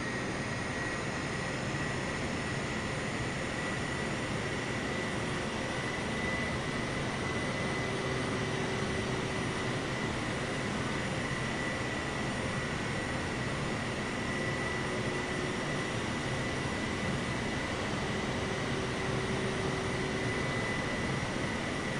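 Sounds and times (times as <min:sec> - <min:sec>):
jet engines running: 0:00.0 - 0:21.9.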